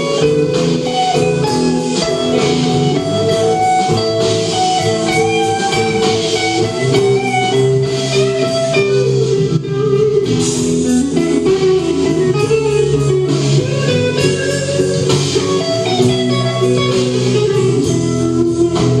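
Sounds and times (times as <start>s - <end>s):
drum kit: 0.0s - 19.0s
electric guitar: 0.0s - 19.0s
live blues rock band: 0.0s - 19.0s.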